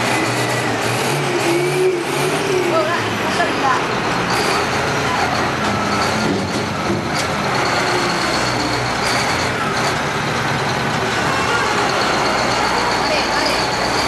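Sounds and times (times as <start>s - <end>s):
wheel loader diesel engine: 0.0s - 14.0s.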